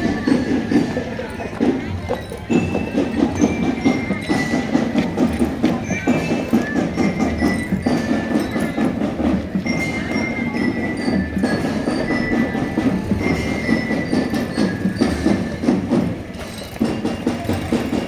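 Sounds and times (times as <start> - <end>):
snare drums clattering: 0.0 - 18.0
high ringing bell notes: 2.2 - 18.0.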